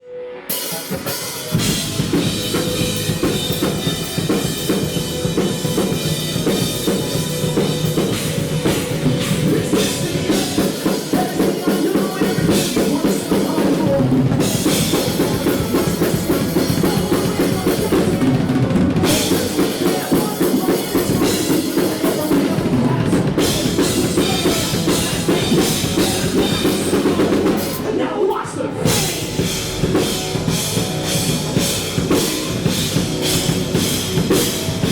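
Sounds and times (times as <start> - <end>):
rock band playing: 0.2 - 34.9.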